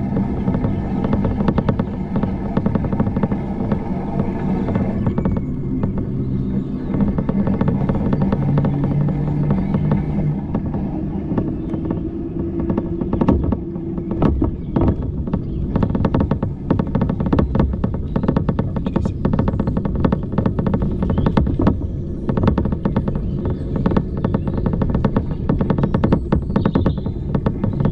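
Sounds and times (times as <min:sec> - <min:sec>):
road and wind noise: 0:00.0 - 0:27.9
vehicle engine humming: 0:00.0 - 0:27.9.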